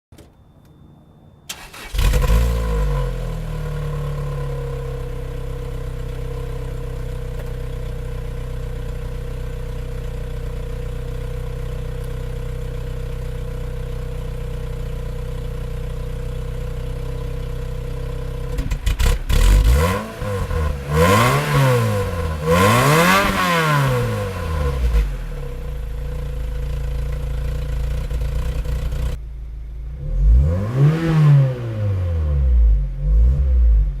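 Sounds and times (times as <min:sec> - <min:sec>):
car engine idling and revving: 0:01.5 - 0:34.0.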